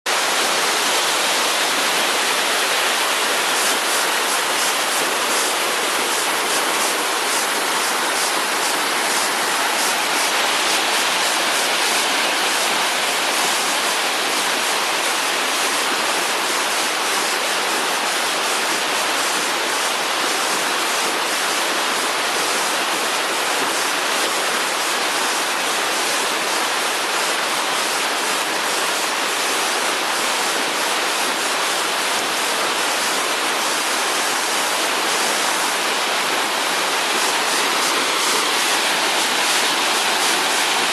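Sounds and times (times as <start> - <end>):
waterfall pouring: 0.1 - 22.4, 29.9 - 40.9.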